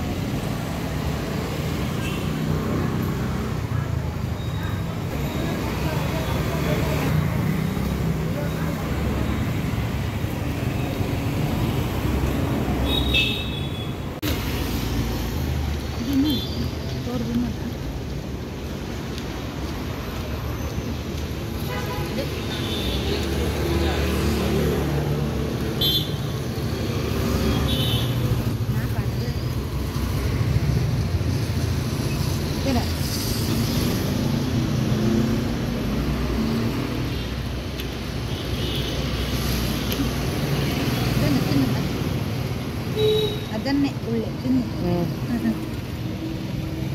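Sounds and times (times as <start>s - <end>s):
street traffic rumble: 0.0s - 46.9s.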